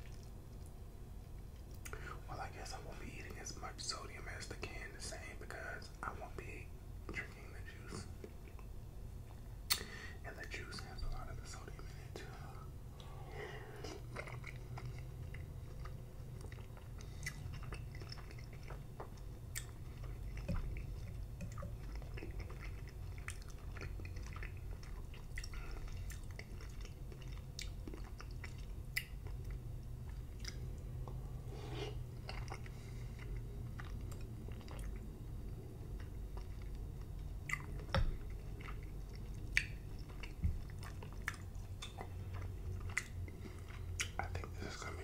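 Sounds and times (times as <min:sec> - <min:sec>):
wet chewing with mouth clicks: 0:00.0 - 0:00.8, 0:08.0 - 0:45.0
steady low hum: 0:00.0 - 0:45.0.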